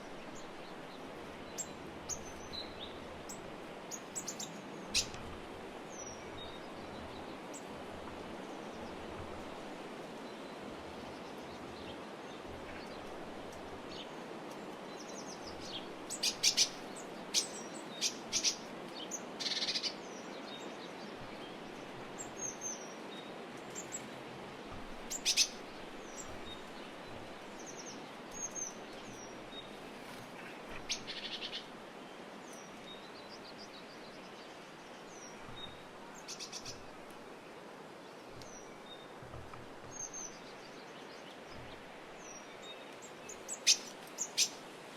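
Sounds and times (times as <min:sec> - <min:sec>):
small birds chirping and trilling: 0:00.0 - 0:44.9
steady hiss: 0:00.0 - 0:44.9.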